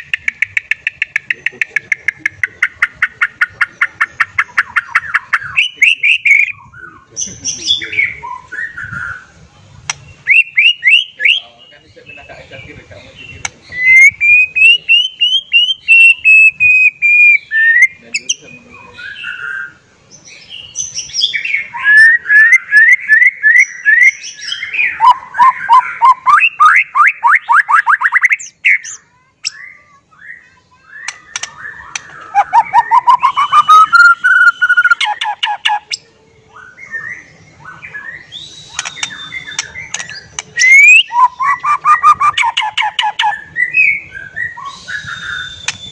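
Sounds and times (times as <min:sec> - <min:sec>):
songbird whistling and trilling: 0:02.6 - 0:45.9.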